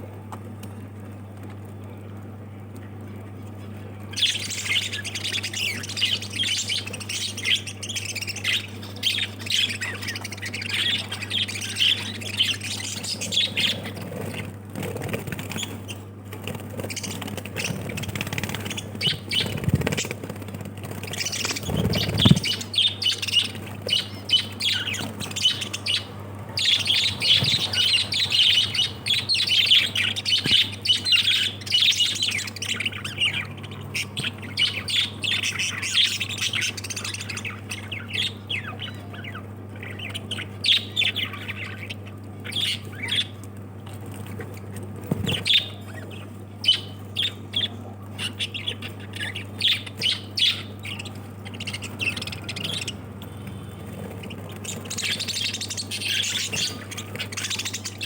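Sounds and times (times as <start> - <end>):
steady low hum: 0.0 - 58.0
parrots chirping and squawking: 3.6 - 43.4, 44.0 - 58.0.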